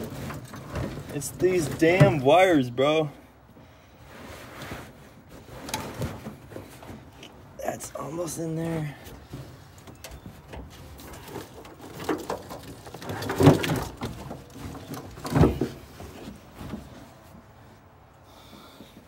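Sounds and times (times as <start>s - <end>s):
carpet rustling and scraping: 0.0s - 19.0s.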